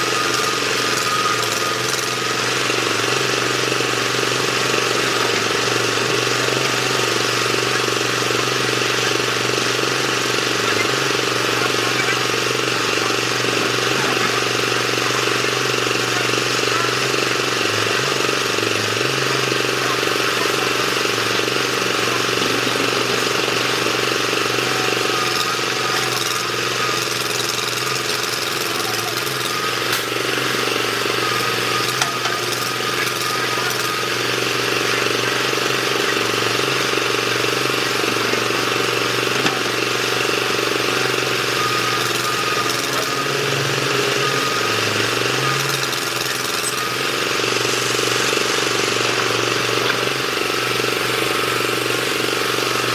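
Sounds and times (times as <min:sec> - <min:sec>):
excavator diesel engine droning: 0:00.0 - 0:52.9.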